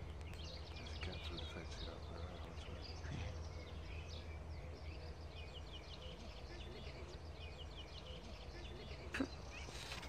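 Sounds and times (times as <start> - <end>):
low outdoor rumble: 0.0 - 10.0
songbirds chirping and singing: 0.0 - 10.0.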